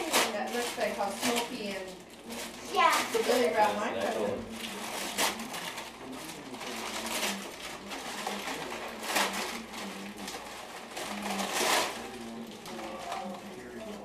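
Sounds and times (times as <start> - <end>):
paper ripping: 0.0 - 13.5
wrapping paper crinkling: 0.0 - 14.0.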